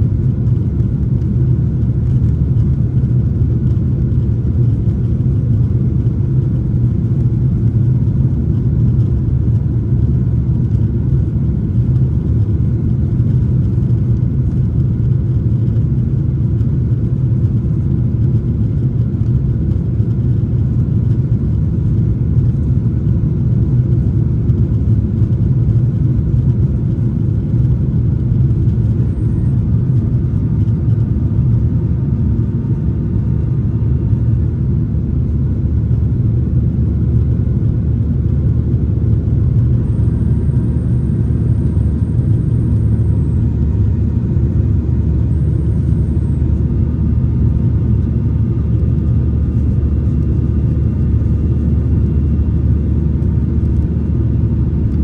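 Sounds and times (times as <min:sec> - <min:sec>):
airplane cabin engine noise: 0:00.0 - 0:55.0.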